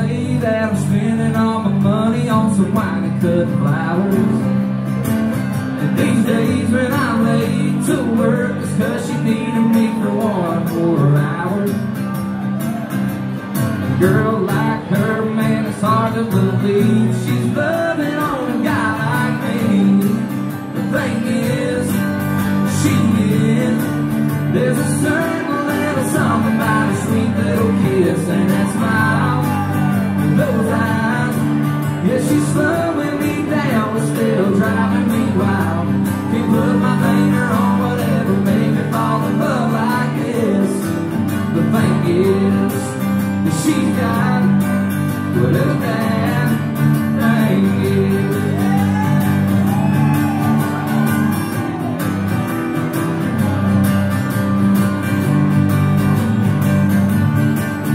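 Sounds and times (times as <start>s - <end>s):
man singing: 0.0s - 4.9s, 5.7s - 12.1s, 13.8s - 51.8s
acoustic guitars strumming: 0.0s - 57.9s.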